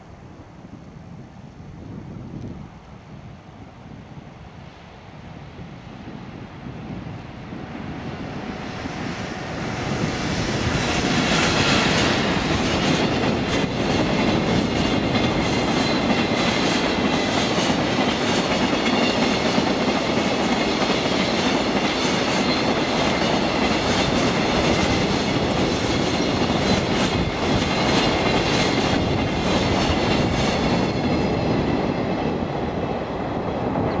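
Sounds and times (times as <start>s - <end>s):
freight train passing: 1.8s - 34.0s.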